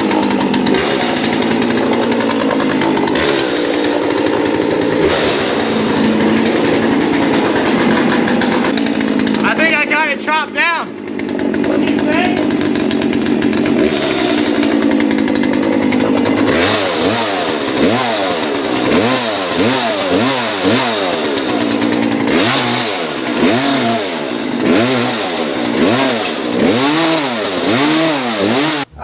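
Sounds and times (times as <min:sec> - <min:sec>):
electric chainsaw cutting: 0:00.0 - 0:29.0.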